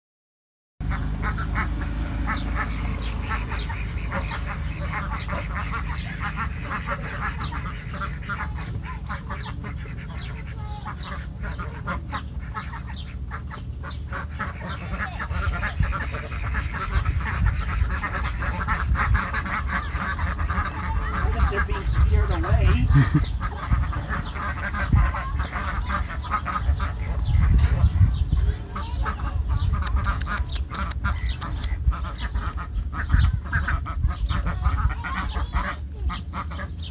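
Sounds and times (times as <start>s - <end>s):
ducks quacking: 0.8s - 36.9s
steady low rumble: 0.8s - 36.9s.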